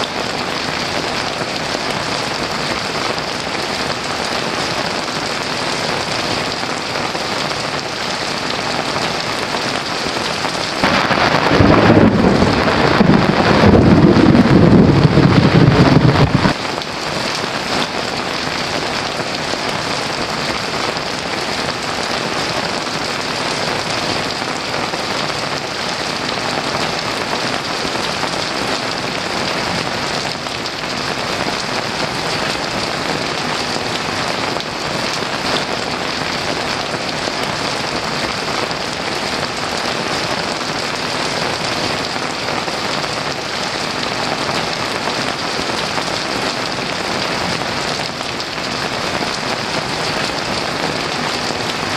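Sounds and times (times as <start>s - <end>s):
heavy rain on a roof: 0.0s - 51.9s.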